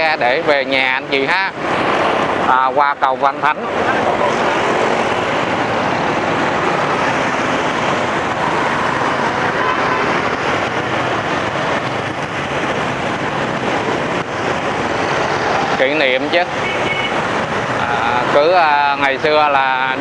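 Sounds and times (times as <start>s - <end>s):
motorbike road and wind noise: 0.0s - 20.0s.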